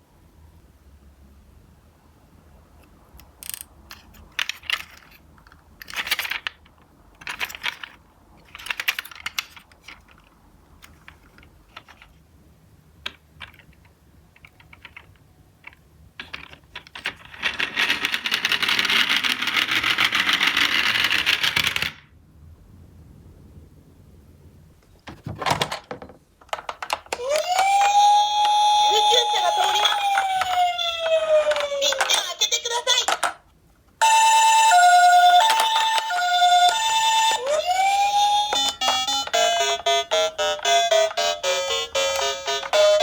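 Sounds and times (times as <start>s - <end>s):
toy cars clicking and clattering: 3.2s - 12.2s, 13.0s - 22.1s, 25.4s - 43.0s.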